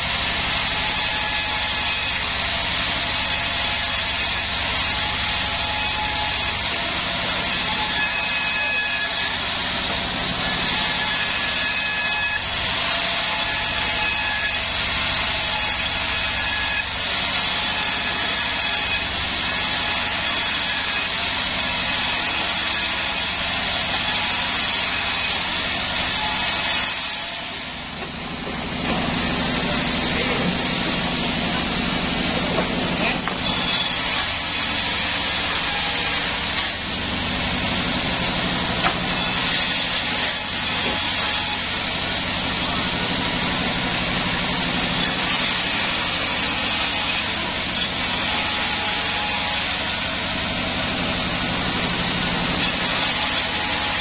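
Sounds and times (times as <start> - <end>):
band saw ripping planks: 0.0 - 54.0.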